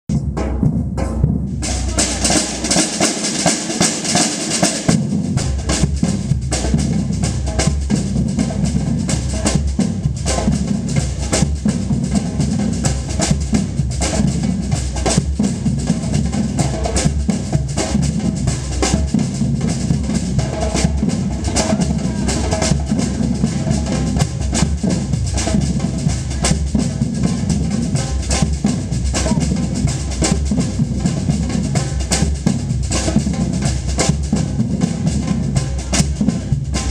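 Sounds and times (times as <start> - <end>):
deep bass drums: 0.0 - 3.1, 4.8 - 36.9
percussion band drumming: 0.1 - 36.9.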